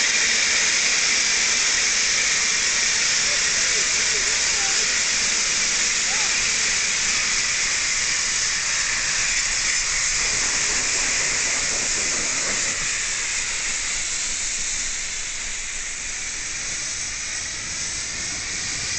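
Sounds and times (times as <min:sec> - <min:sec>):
hiss of escaping steam: 0:00.0 - 0:18.9
steam locomotive passing: 0:00.0 - 0:18.9.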